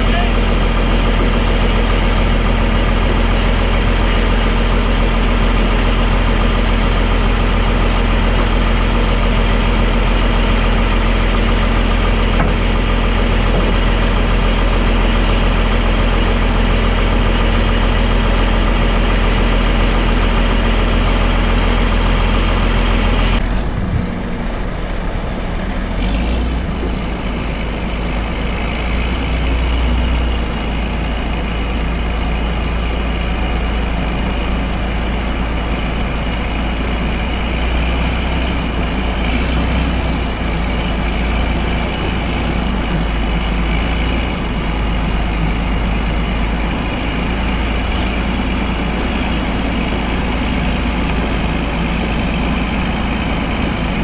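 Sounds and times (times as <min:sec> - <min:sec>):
bulldozer diesel engine idling: 0:00.0 - 0:54.0
lorry diesel engine running: 0:00.0 - 0:54.0.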